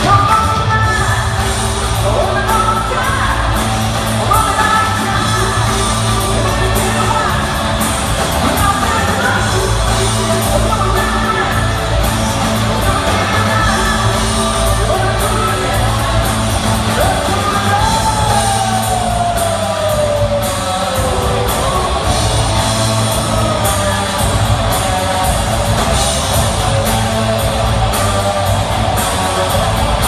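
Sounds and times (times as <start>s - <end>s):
live rock band playing: 0.0s - 30.0s
person singing: 0.0s - 30.0s.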